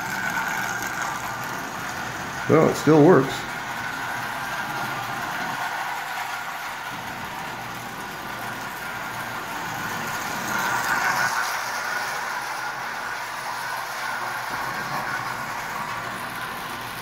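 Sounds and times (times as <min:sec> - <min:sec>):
toy train running on track: 0:00.0 - 0:17.0.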